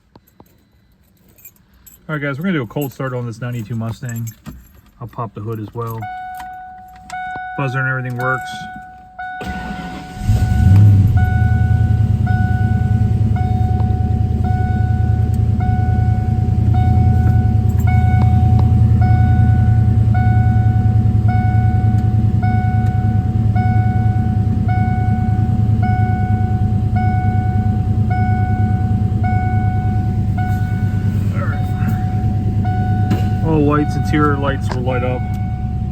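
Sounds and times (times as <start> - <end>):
car engine cold start and idle: 0.0 - 35.9
dashboard warning chime: 0.2 - 35.9.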